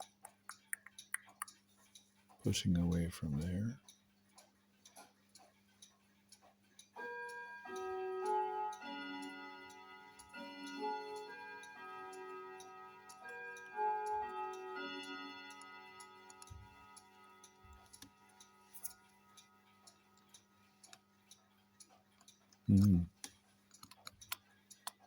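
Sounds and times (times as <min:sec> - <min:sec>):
clocks ticking: 0:00.0 - 0:25.0
chiming clock melody: 0:01.8 - 0:22.6.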